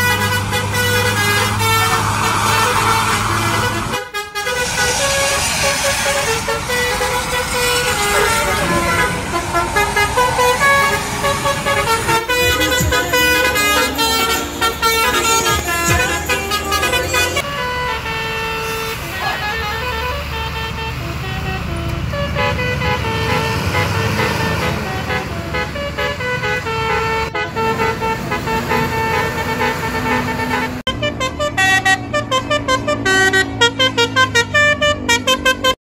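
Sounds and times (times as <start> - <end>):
bus engines running: 0.0 - 35.8
musical air horns: 0.0 - 35.8.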